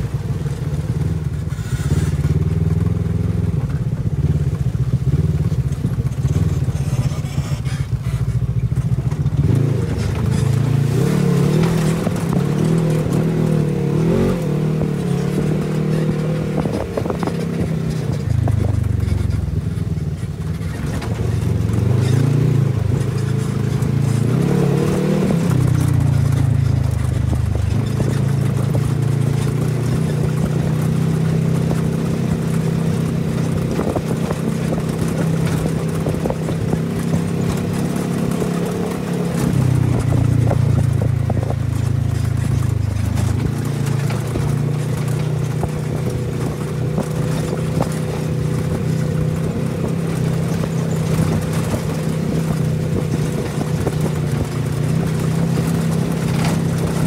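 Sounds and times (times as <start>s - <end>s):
utility vehicle engine droning: 0.0s - 57.0s.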